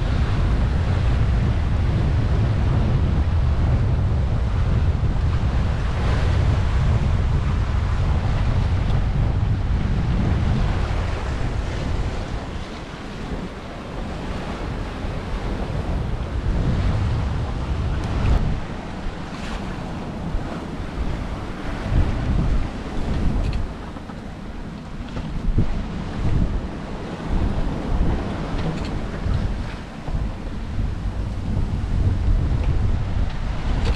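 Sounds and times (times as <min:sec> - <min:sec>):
waves breaking and foaming: 0:00.0 - 0:33.9
wind buffeting microphone: 0:00.0 - 0:33.9.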